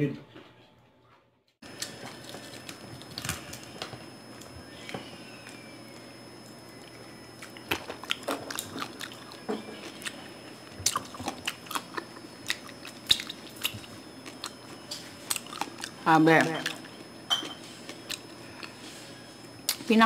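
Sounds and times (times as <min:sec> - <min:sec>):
crunching and chewing crispy food: 0:01.7 - 0:19.9.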